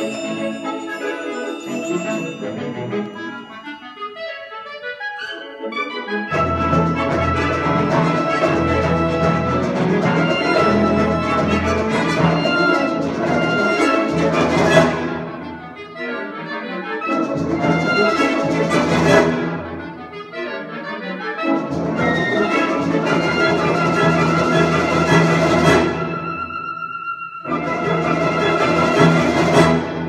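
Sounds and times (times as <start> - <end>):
wind ensemble playing: 0.0 - 30.0.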